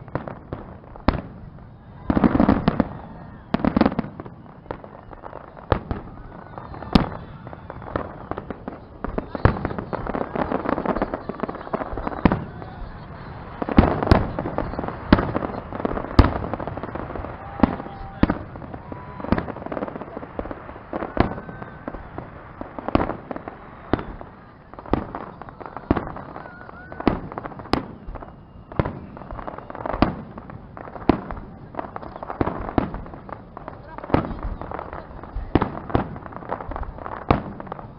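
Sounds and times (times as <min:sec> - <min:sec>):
fireworks bangs: 0:00.0 - 0:37.9.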